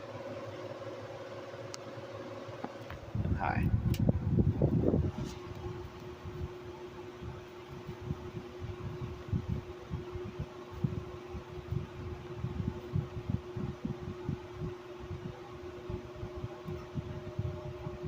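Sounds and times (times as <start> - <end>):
air conditioner fan running: 0.0 - 18.0.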